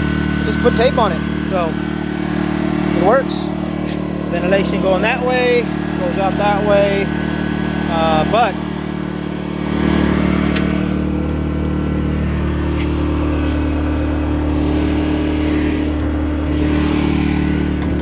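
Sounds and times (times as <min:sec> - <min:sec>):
generator engine hum: 0:00.0 - 0:18.0.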